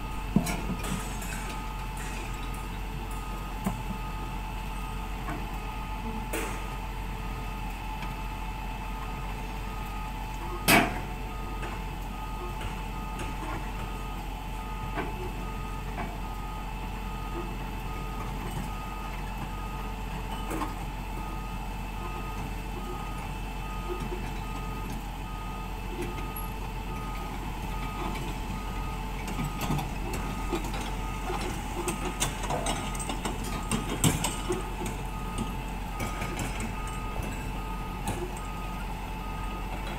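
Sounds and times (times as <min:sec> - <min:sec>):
diesel engine running: 0:00.0 - 0:39.9
excavator travel alarm beeping: 0:00.0 - 0:39.9.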